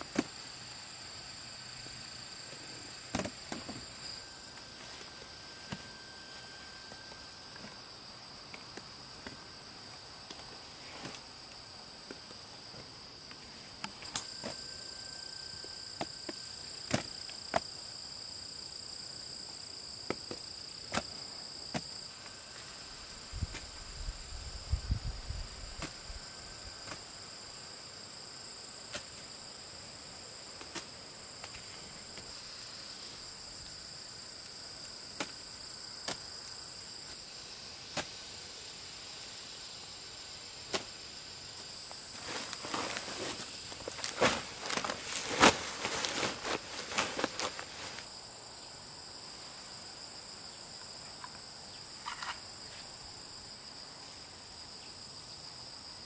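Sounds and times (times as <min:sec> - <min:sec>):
night insects chirring: 0:00.0 - 0:56.0.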